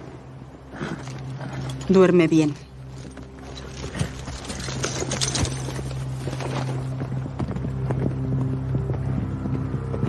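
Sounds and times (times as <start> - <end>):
horse hooves clopping: 0.0 - 10.0
low film score drone: 0.0 - 10.0.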